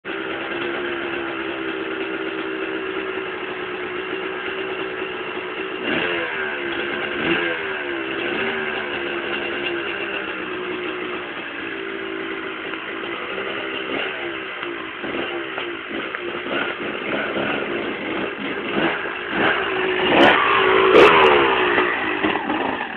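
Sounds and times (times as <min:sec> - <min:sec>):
two-stroke engine idling: 0:00.0 - 0:22.9
engine throttle blips: 0:00.2 - 0:22.9.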